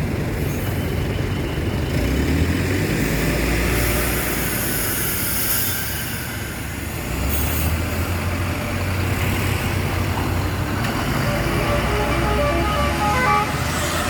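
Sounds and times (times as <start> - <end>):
bus engine rumble: 0.0 - 14.0
road traffic: 0.0 - 14.0.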